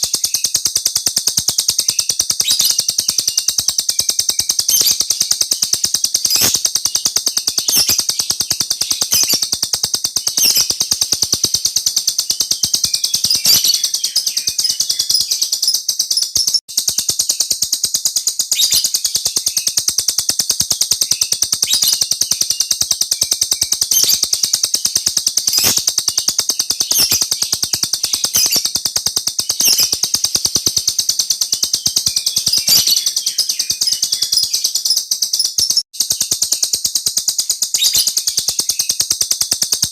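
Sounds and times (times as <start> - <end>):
lovebird chattering song: 0.0 - 39.8.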